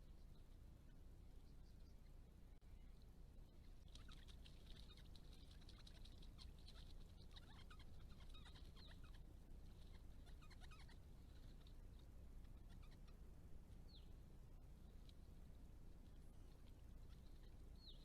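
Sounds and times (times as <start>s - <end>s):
birds chirping and twittering: 0.0s - 14.2s, 14.8s - 18.0s
low steady hum: 0.0s - 18.0s.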